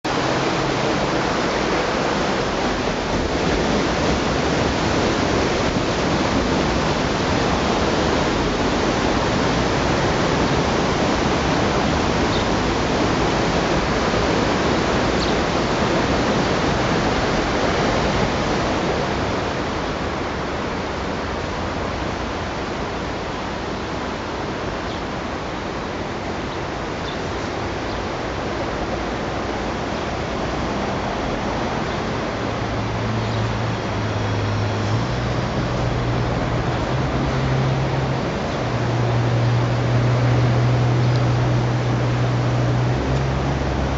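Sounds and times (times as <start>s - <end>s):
steady rushing noise: 0.0s - 43.9s.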